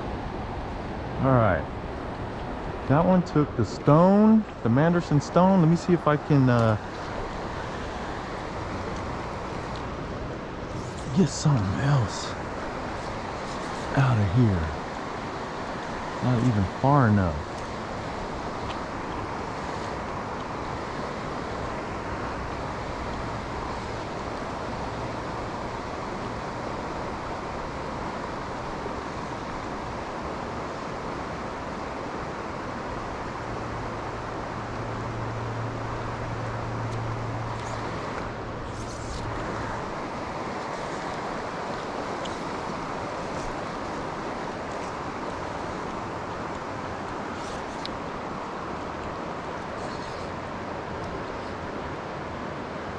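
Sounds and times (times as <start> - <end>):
river current rushing: 0.0 - 52.9.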